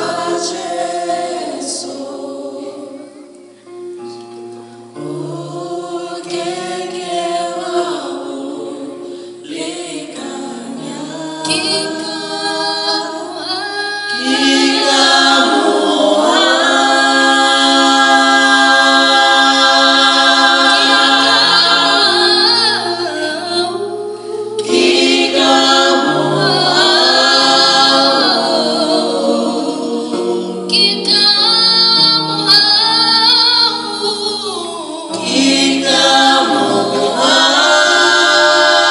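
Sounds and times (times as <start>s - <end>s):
vocal group singing a cappella: 0.0s - 3.5s, 4.1s - 38.9s.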